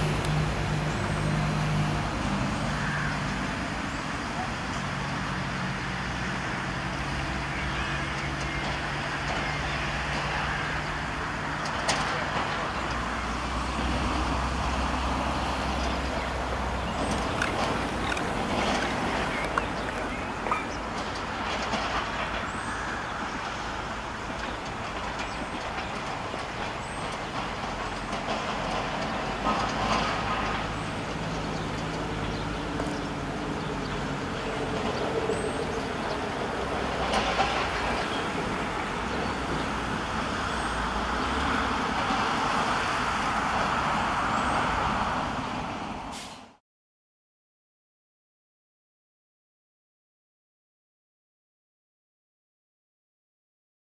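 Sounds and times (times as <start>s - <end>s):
diesel train engine drone: 0.0s - 46.6s
wheel and rail noise: 0.0s - 46.6s.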